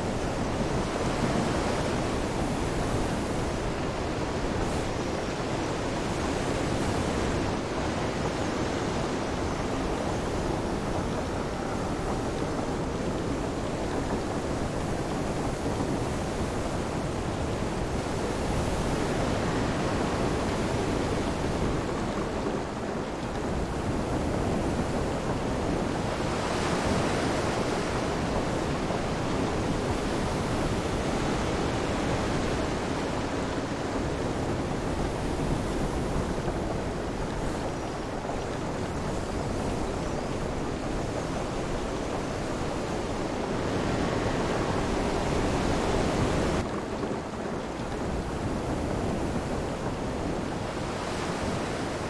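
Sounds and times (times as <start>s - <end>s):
rain: 0.0s - 52.0s
surf: 0.0s - 52.0s
wind: 0.0s - 52.0s.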